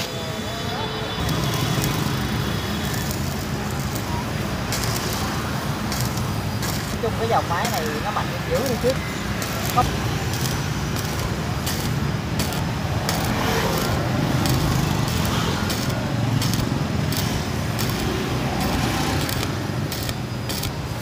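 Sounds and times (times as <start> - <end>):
welding arc crackling: 0.0 - 21.0.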